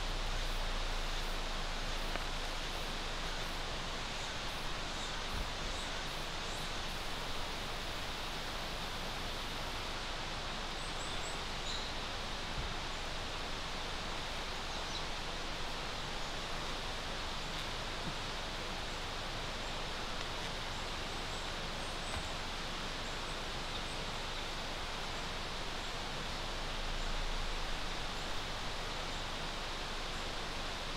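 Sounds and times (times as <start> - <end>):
outdoor background hiss: 0.0 - 30.9.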